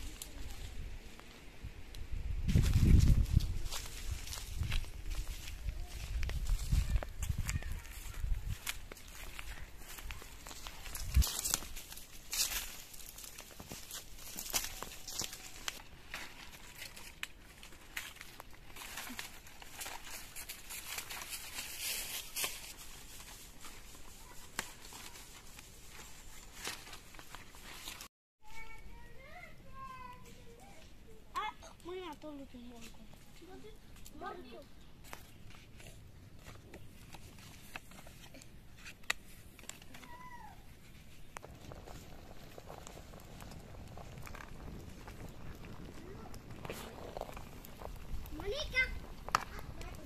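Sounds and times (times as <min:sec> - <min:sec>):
leaves rustling: 0:00.0 - 0:31.3, 0:31.9 - 0:50.0.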